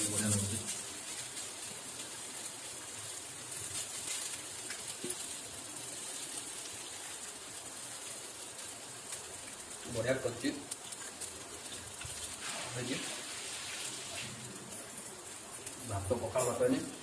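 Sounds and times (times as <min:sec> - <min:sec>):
fritters sizzling on a hot pan: 0:00.0 - 0:17.0.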